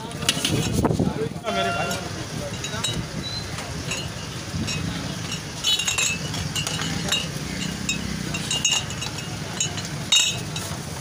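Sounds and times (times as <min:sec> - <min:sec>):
street noise: 0:00.0 - 0:11.0
glass tumblers clinking: 0:01.7 - 0:11.0.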